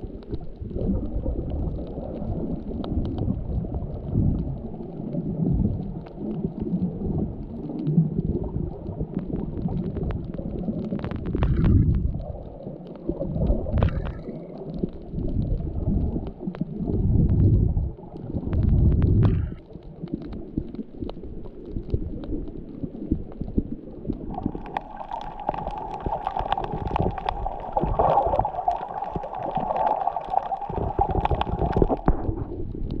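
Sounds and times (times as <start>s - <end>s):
muffled underwater water swells: 0.0s - 33.0s.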